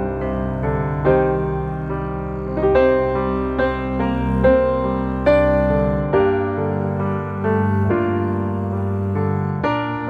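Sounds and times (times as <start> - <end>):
soft slow piano music: 0.0 - 10.0.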